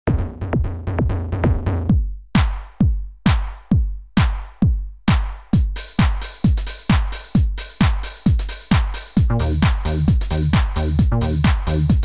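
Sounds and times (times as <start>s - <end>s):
drum machine kick drums: 0.0s - 12.0s.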